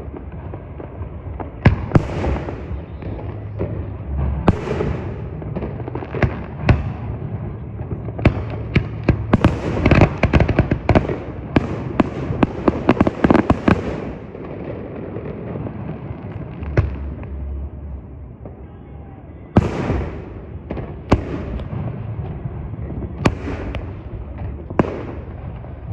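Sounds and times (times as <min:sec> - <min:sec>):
low rumble: 0:00.0 - 0:13.0, 0:14.0 - 0:25.9
fireworks bangs and crackles: 0:00.0 - 0:25.9.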